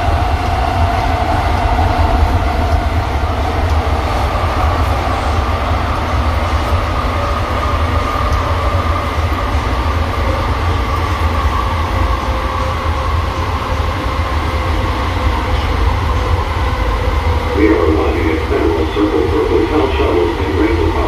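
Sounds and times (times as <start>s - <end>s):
train car rumbling: 0.0s - 21.0s.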